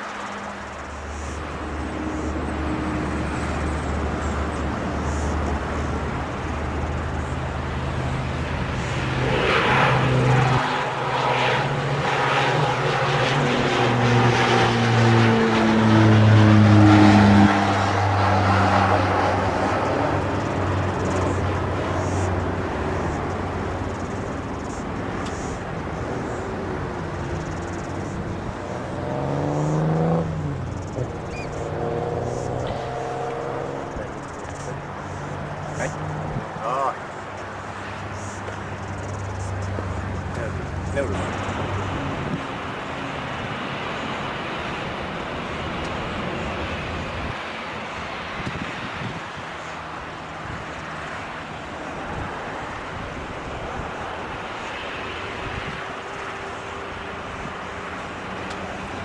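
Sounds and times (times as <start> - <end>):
jet engines idling with whine: 0.0 - 29.1, 30.2 - 59.0.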